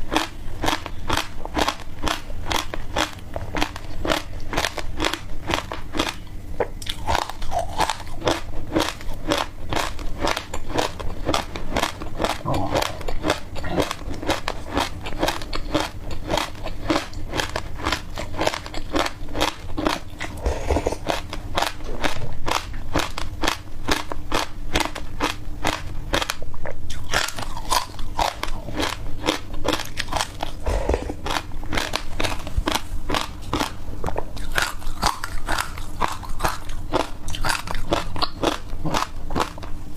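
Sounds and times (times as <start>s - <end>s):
person crunching seeds: 0.0s - 39.7s.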